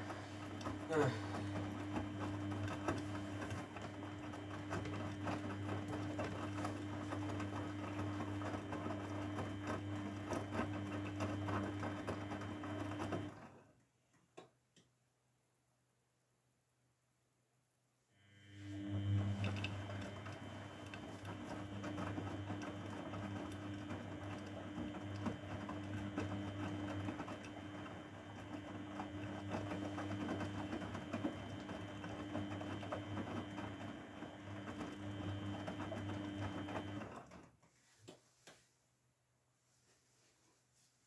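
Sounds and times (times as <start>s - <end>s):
washing machine humming: 0.0s - 13.8s, 18.2s - 38.0s.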